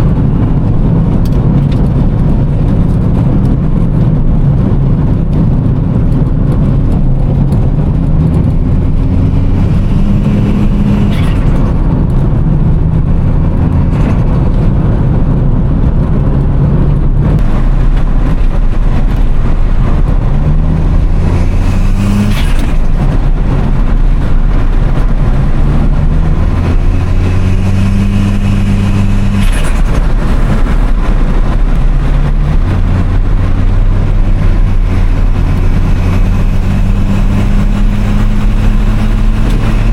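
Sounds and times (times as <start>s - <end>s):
turbocharged engine accelerating: 0.0s - 39.9s.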